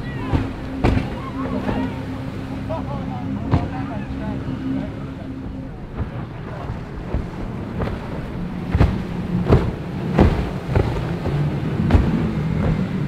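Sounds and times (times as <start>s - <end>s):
boat engines droning: 0.0s - 13.0s
hull slapping waves: 0.0s - 13.0s
wind buffeting microphone: 0.0s - 13.0s.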